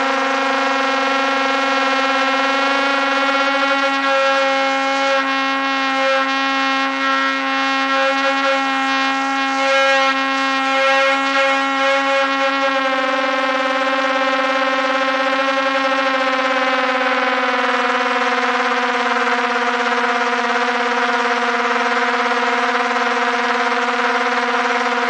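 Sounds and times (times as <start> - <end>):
drone propellers humming: 0.0 - 25.0.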